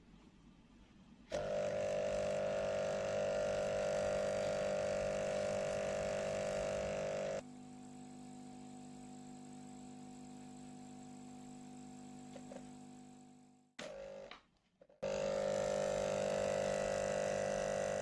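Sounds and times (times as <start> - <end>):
air pump humming: 1.3 - 14.1, 15.0 - 18.0.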